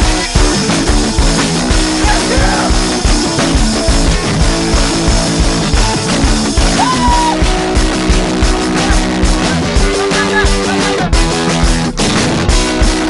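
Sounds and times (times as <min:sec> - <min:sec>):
fast drum beat: 0:00.0 - 0:13.0
loud rock music: 0:00.0 - 0:13.0.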